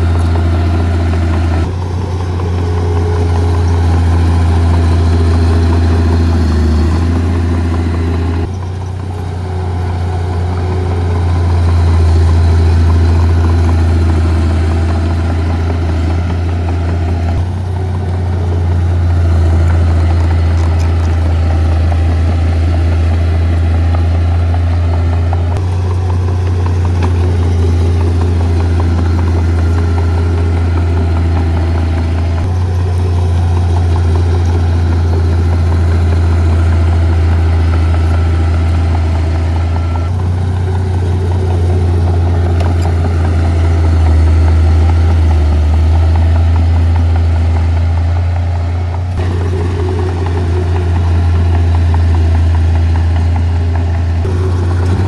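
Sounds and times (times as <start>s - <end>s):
heavy diesel machinery drone: 0.0s - 55.0s.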